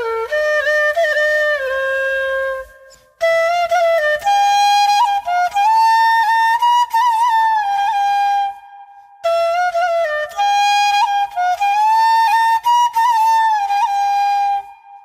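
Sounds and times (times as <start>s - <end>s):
solo flute melody: 0.0s - 15.0s.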